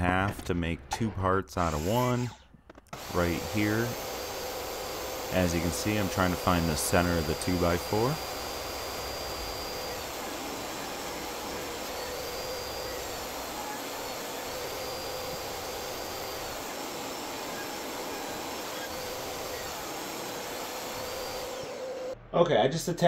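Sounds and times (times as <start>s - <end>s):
workshop machine running: 1.6s - 22.2s.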